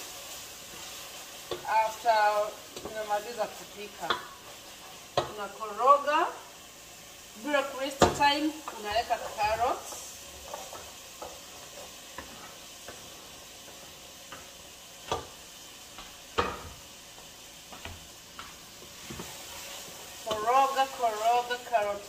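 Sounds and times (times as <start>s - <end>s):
steady sizzle from pot: 0.0s - 22.0s.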